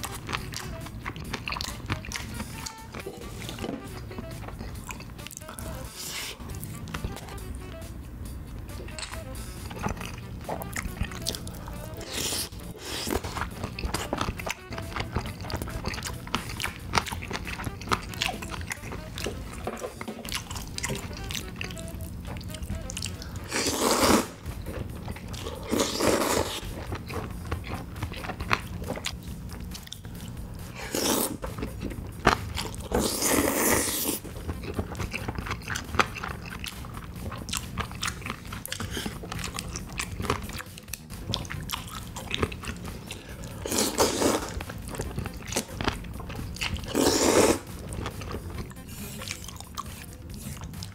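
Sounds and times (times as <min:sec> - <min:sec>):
slurping spaghetti: 0:00.0 - 0:07.3, 0:08.8 - 0:50.9
wet chewing: 0:00.0 - 0:07.8, 0:08.5 - 0:50.9.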